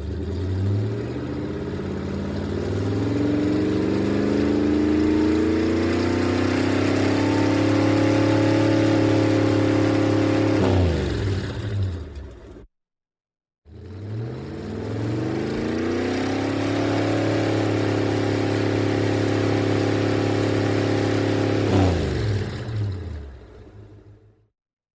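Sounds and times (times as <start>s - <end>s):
car engine accelerating: 0.0s - 12.7s, 13.7s - 24.3s.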